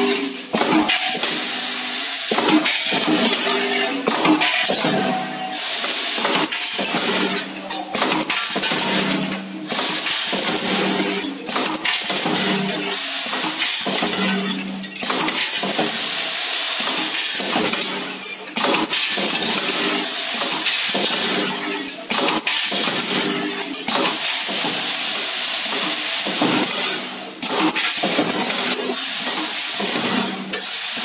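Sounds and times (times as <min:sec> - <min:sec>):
mechanical hum: 0:00.0 - 0:31.0.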